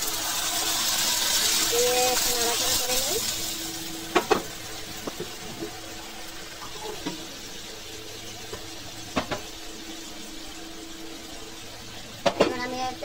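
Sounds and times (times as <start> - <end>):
paste sizzling in hot oil: 0.0 - 13.0
steady low hum: 0.0 - 13.0.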